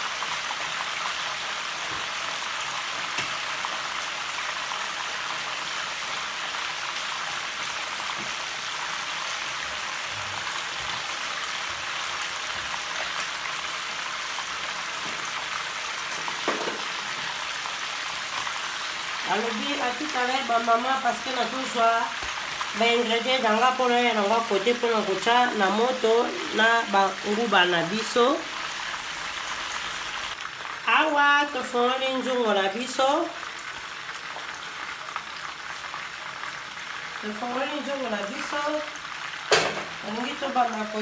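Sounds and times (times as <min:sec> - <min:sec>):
meat sizzling in frying pan: 0:00.0 - 0:41.0.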